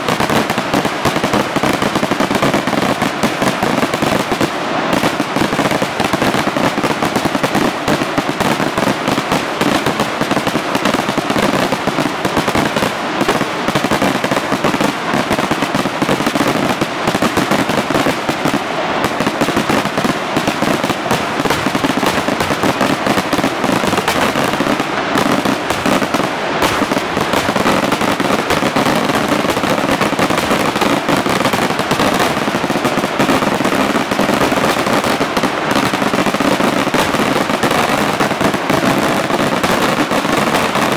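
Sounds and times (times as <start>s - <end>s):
fireworks shell bursts and crackling: 0.0s - 40.9s.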